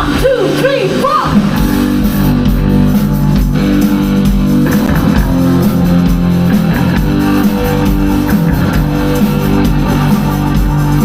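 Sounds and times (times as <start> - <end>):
bass guitar: 0.0 - 11.0
distorted electric guitars: 0.0 - 11.0
drum kit: 0.0 - 11.0.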